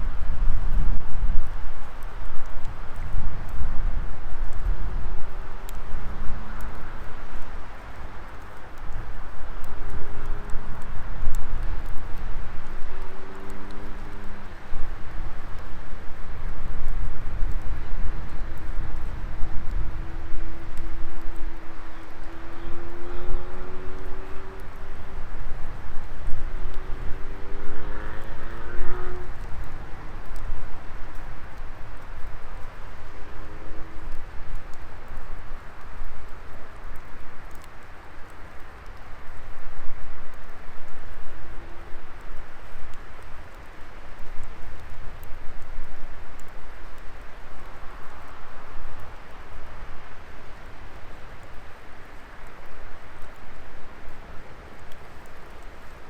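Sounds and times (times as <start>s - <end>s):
faint steady hums: 0.0s - 56.0s
fire crackles and pops: 0.0s - 56.0s
low rumble of wood fire: 0.0s - 56.0s.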